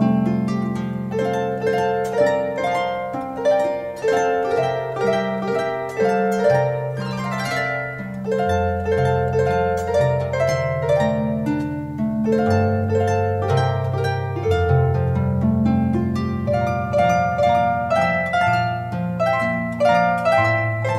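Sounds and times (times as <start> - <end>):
harp music: 0.0 - 20.9.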